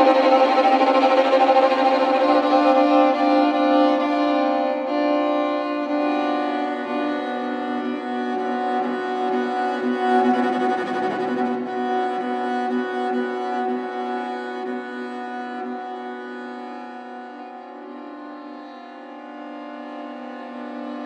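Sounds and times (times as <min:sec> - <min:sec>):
string quartet sustained chords: 0:00.0 - 0:21.0.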